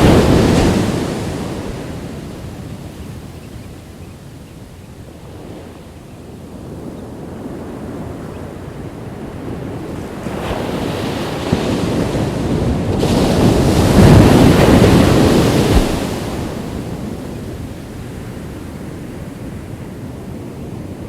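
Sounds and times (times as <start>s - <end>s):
ocean waves breaking on beach: 0.0s - 21.0s.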